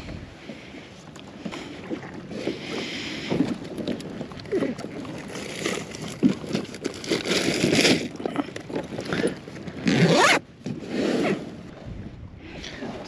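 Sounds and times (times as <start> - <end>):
water sloshing and splashing: 0.0 - 10.9.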